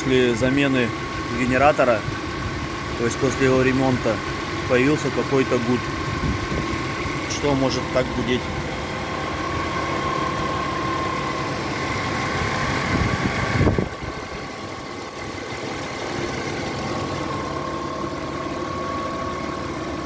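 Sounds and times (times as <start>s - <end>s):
car engine idling with whine: 0.0s - 20.0s.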